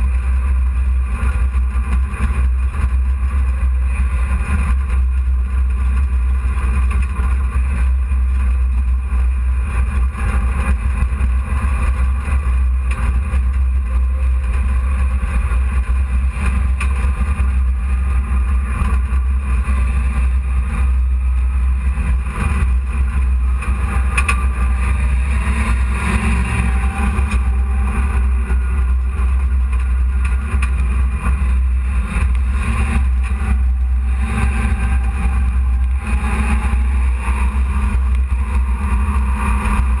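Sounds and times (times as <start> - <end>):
race truck engine drone: 0.0 - 40.0.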